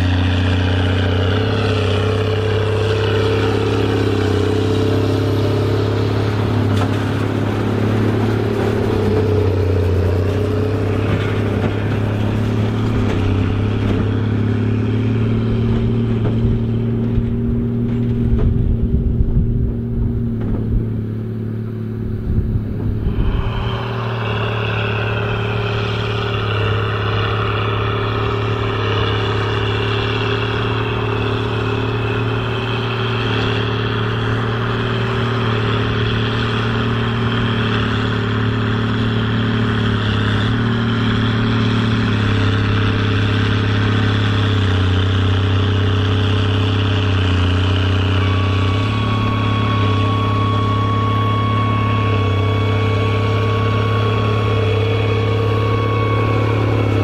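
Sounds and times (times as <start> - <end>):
baler machinery running: 0.0 - 57.0
high whine: 0.0 - 57.0
tractor diesel engine under load: 0.0 - 57.0.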